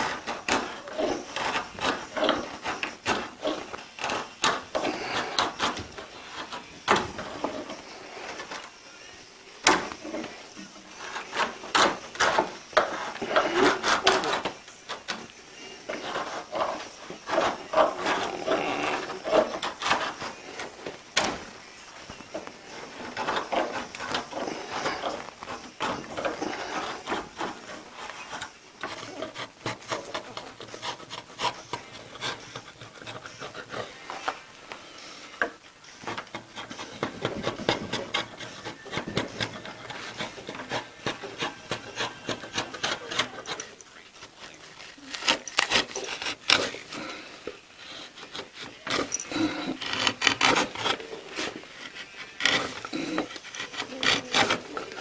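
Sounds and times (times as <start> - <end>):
blade clicking on wood: 0.0 - 8.7, 9.6 - 34.8, 35.4 - 55.0
knife scraping wood: 0.0 - 8.8, 9.5 - 55.0.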